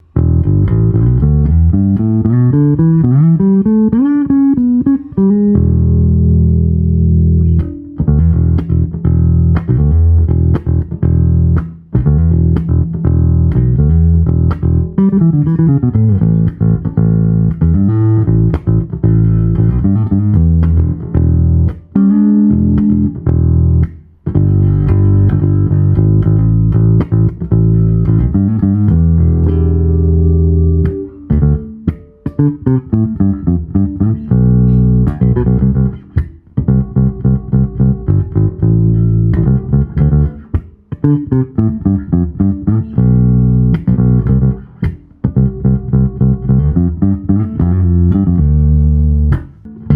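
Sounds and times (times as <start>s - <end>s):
electric bass plucked: 0.0s - 49.9s.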